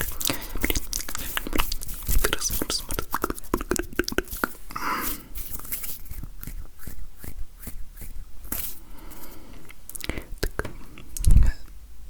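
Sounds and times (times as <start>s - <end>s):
hands rubbing: 0.0s - 9.7s.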